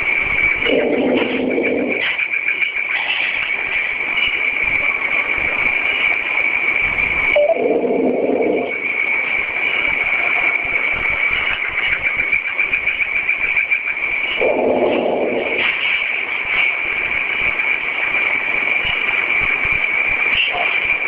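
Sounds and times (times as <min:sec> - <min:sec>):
high-pitched whine: 0:00.0 - 0:21.0
static hiss: 0:00.0 - 0:21.0.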